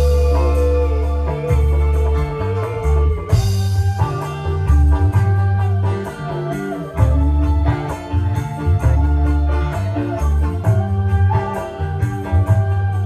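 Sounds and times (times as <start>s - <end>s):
drum kit: 0.0s - 13.0s
electric guitar: 0.0s - 13.0s
hand drums: 0.0s - 13.0s
heavy bass notes: 0.0s - 13.0s.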